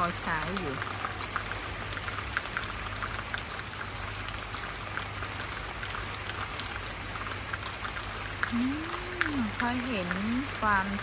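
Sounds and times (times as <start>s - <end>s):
raindrops tapping: 0.0s - 11.0s
steady rain: 0.0s - 11.0s.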